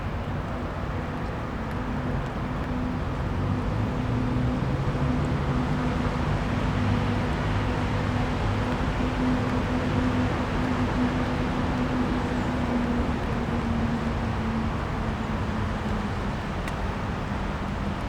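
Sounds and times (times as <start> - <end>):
low engine hum: 0.0 - 18.0
traffic rumble: 0.0 - 18.0.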